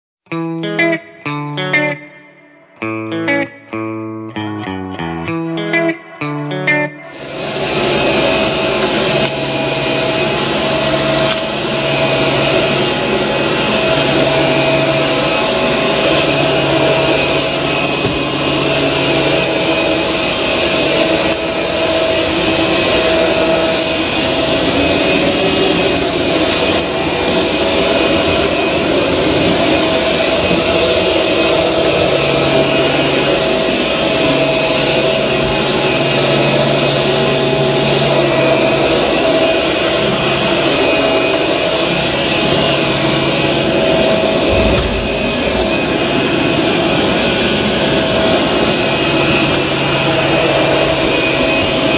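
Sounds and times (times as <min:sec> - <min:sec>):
upright vacuum cleaner running: 0:05.3 - 0:51.9.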